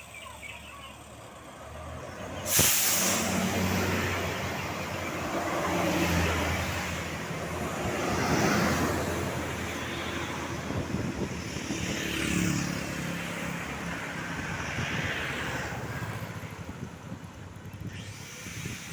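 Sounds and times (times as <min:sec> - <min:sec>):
vehicles passing close by: 0:00.0 - 0:18.9.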